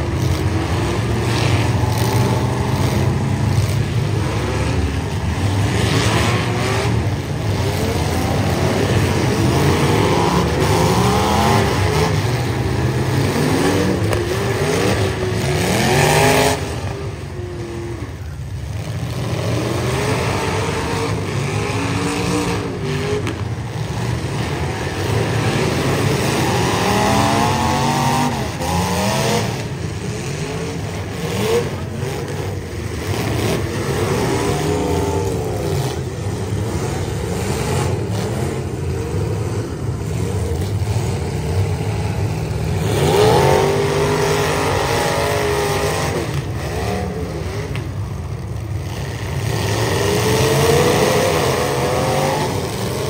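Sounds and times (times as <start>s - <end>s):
car engines revving hard: 0.0s - 53.0s.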